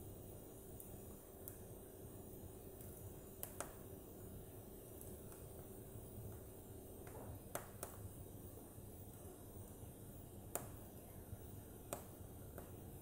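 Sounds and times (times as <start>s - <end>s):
fire crackles and pops: 0.0s - 13.0s
wood fire burning: 0.0s - 13.0s.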